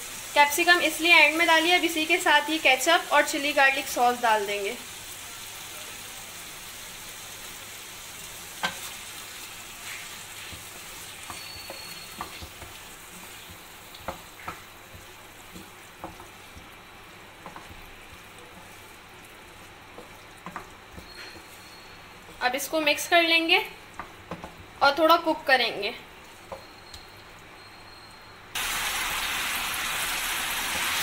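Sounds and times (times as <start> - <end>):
food sizzling in a pan: 0.0 - 27.3, 28.6 - 31.0.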